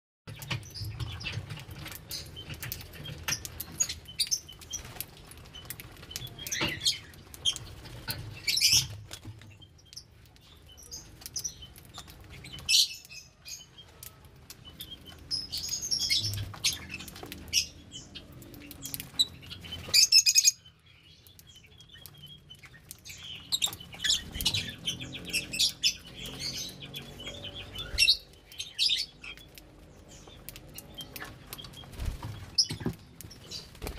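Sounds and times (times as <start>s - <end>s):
lovebirds chirping: 0.3s - 33.9s.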